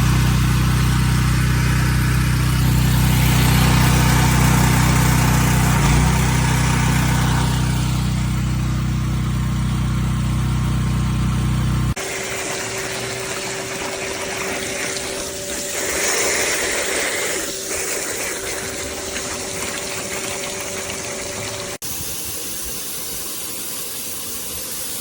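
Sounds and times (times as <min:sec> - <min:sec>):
pressure washer spray hissing: 0:00.0 - 0:09.6, 0:10.8 - 0:19.2, 0:21.8 - 0:25.0
pump humming: 0:00.0 - 0:25.0.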